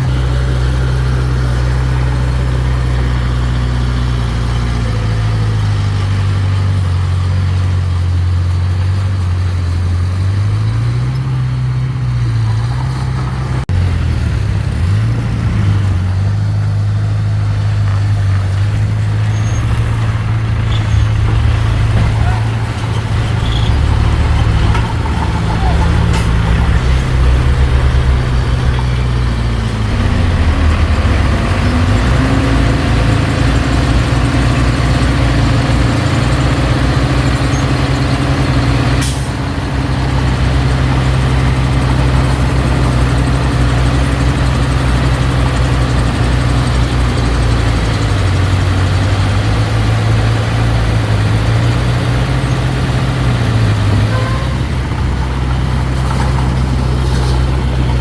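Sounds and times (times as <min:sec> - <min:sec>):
diesel engine under varying load: 0:00.0 - 0:58.0.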